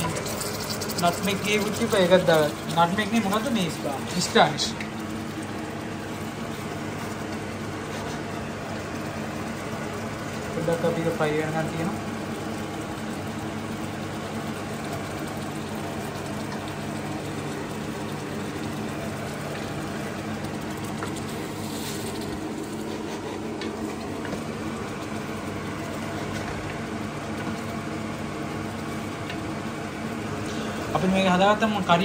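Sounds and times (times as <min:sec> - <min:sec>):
curry sizzling in oil: 0:00.0 - 0:32.0.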